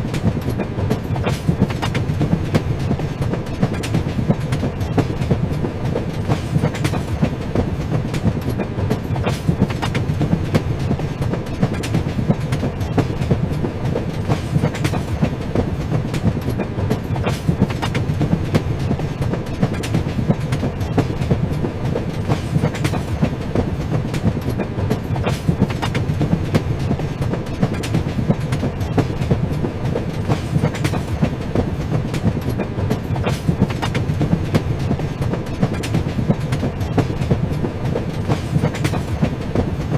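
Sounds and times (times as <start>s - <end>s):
train rumble: 0.0s - 39.9s
wheels clacking over track: 0.0s - 39.9s.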